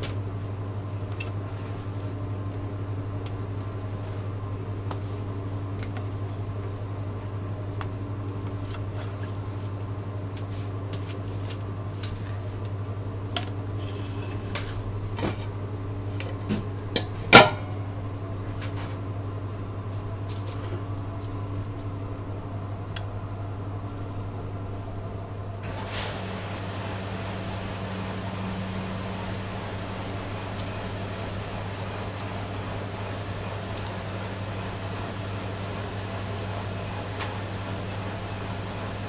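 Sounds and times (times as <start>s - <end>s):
kitchen equipment hum: 0.0s - 39.0s.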